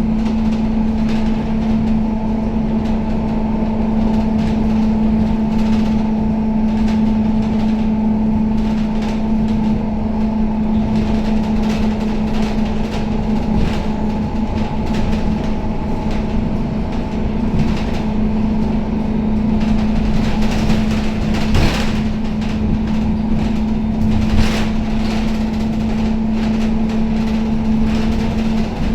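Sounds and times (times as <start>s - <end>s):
bus body knocks and rattles: 0.0s - 28.9s
bus engine drone: 0.0s - 28.9s.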